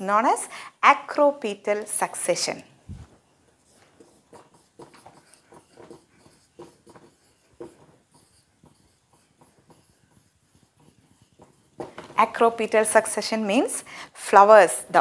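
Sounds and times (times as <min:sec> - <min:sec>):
marker writing on whiteboard: 0:01.1 - 0:15.0.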